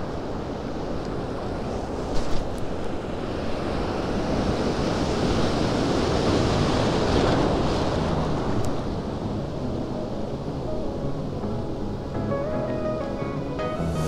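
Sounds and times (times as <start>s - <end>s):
ocean surf washing in: 2.7s - 14.0s.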